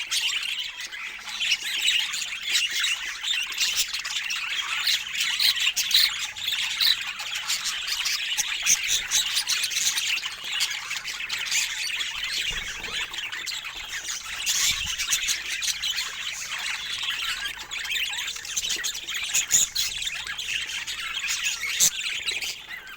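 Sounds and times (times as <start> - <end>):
budgerigars chattering and squawking: 0.0 - 22.9.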